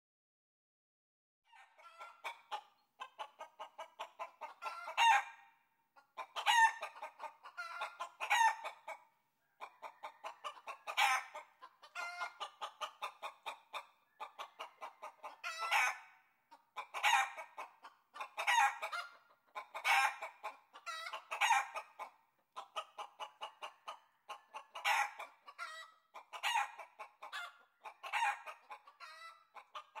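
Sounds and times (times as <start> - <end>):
hen clucking and cackling: 1.5 - 30.0.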